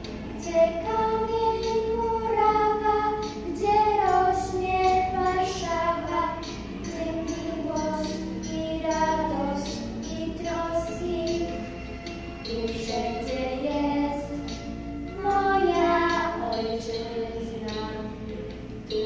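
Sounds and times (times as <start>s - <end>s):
girls singing into a microphone: 0.0s - 11.8s, 12.4s - 19.0s.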